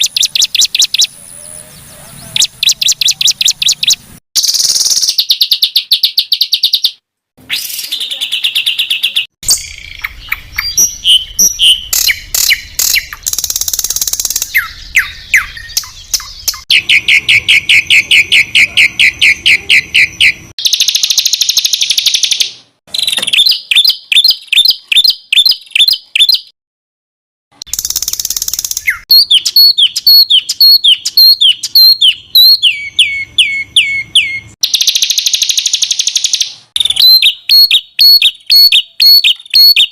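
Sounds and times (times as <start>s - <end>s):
songbird trills: 0.0s - 26.5s, 27.7s - 39.9s.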